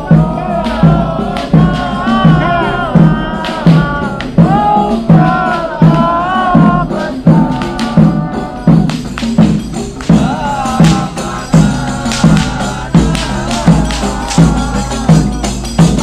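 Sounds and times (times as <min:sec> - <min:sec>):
group singing a chanted melody: 0:00.0 - 0:16.0
hand drums beating: 0:00.0 - 0:16.0.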